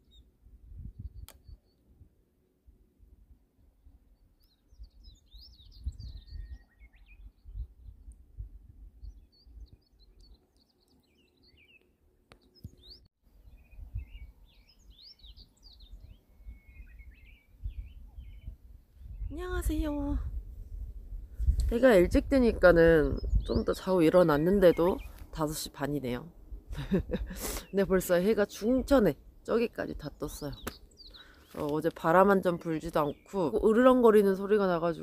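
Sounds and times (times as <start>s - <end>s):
birds chirping and twittering: 4.1s - 26.2s, 26.8s - 35.0s.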